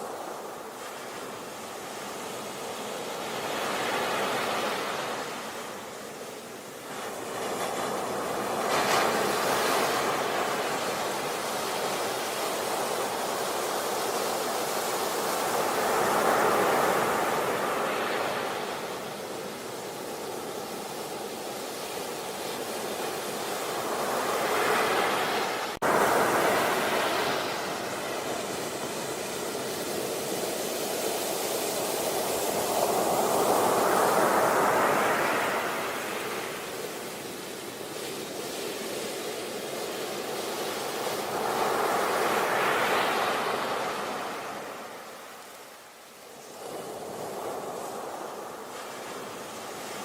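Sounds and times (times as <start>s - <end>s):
sea waves breaking on beach: 0.0s - 50.0s.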